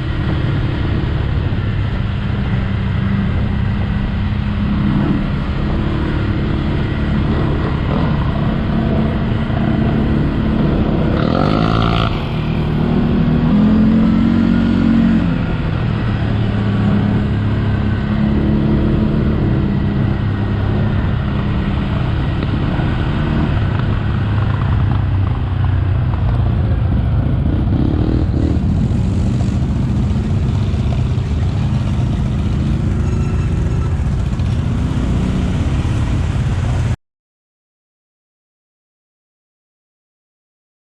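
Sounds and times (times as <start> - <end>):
atv engine running: 0.0 - 36.9.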